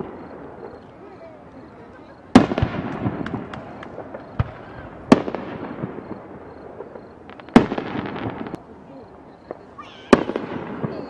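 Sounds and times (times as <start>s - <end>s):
fireworks booming: 0.0s - 11.0s
fireworks pops and crackles: 0.0s - 11.0s.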